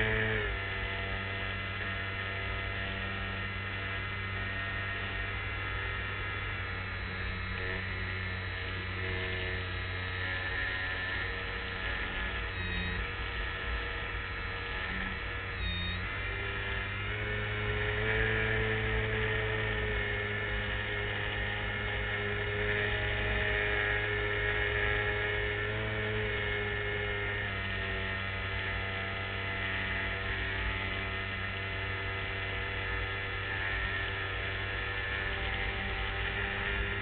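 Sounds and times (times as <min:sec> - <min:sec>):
model airplane motor humming: 0:00.0 - 0:37.0.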